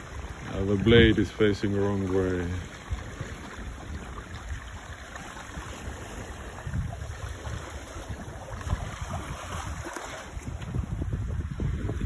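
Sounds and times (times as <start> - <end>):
water rushing past boat: 0.0 - 12.0
wind buffeting microphone: 0.0 - 12.0.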